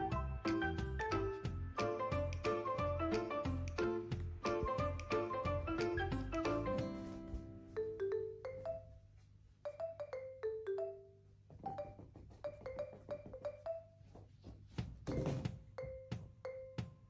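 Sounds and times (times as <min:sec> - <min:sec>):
mallet percussion melody: 0:00.0 - 0:09.0, 0:09.7 - 0:14.0, 0:15.1 - 0:17.0.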